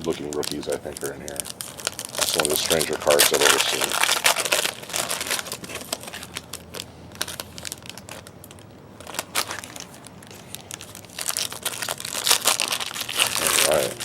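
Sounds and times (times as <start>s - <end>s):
cards and wrappers crinkling: 0.0s - 14.0s.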